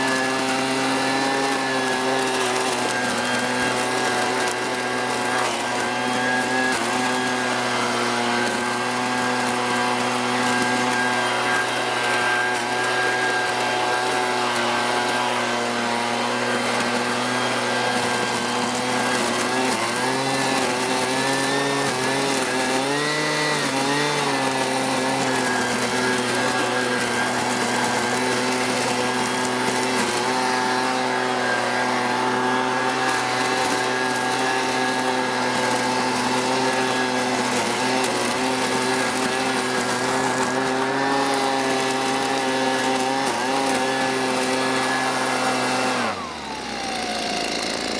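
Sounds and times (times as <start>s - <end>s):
leaf blower engine running: 0.0s - 47.9s.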